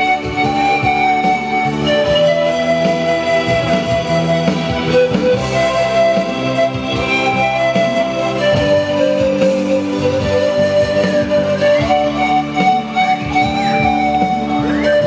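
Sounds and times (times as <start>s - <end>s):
lower accompaniment: 0.0s - 15.0s
pan flute melody: 0.0s - 15.0s.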